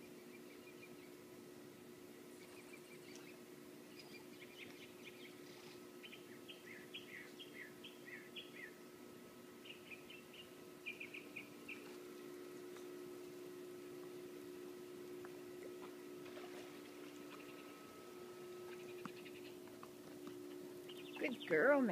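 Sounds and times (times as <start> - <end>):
songbirds chirping faintly: 0.0 - 21.9
steady low hum: 0.0 - 21.9.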